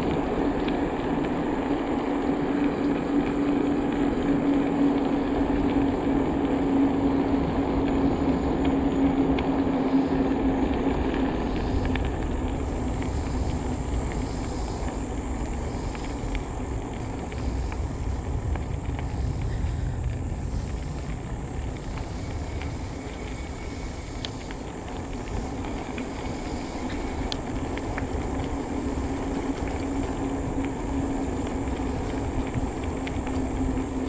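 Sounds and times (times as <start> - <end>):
tyre and wind noise: 0.0 - 34.0.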